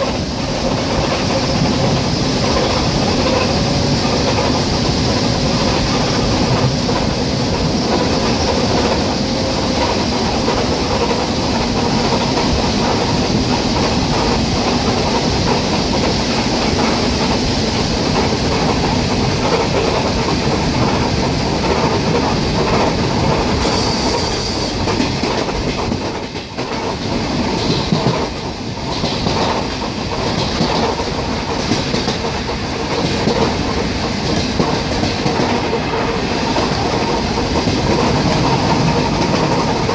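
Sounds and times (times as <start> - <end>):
train rumble: 0.0 - 39.9
train wheels clattering over rail joints: 0.0 - 39.9.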